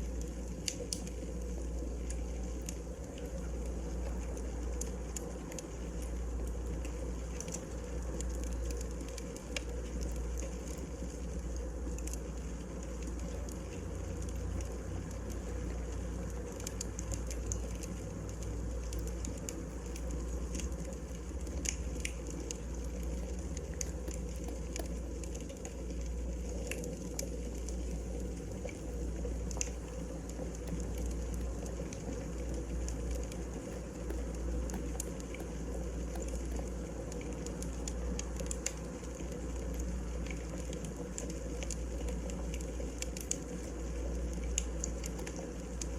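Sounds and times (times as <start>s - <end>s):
crackles and pops of burning logs: 0.0s - 45.9s
fire low rumble: 0.0s - 45.9s.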